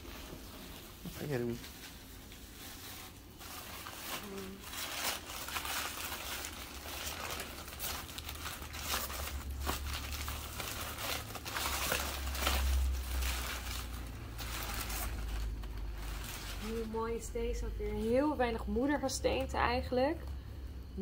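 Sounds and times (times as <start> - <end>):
packing paper crinkling: 0.0 - 17.2.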